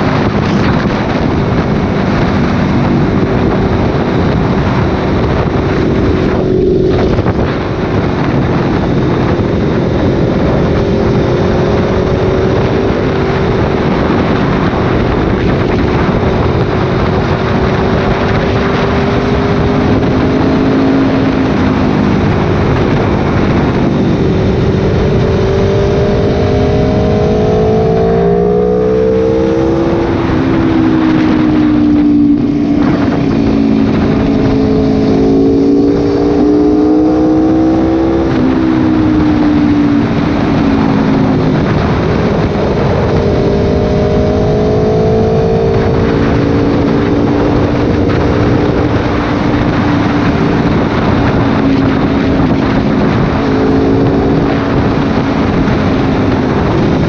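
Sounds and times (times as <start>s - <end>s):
motorcycle engine running: 0.0s - 57.0s
wind rush: 0.0s - 57.0s.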